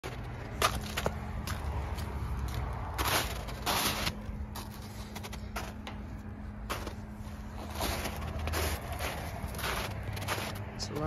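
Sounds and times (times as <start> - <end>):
footsteps crunching in snow: 0.0 - 11.0
steady low hum: 0.0 - 11.0.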